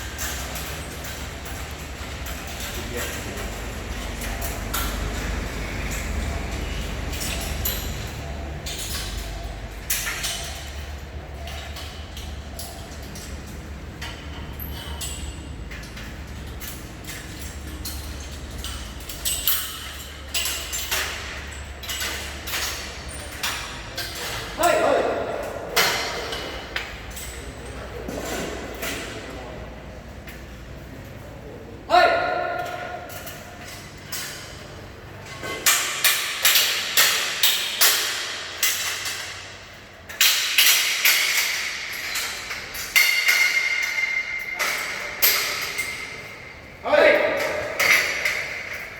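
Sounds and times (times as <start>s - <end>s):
metallic clanks of scaffolding: 0.0s - 48.9s.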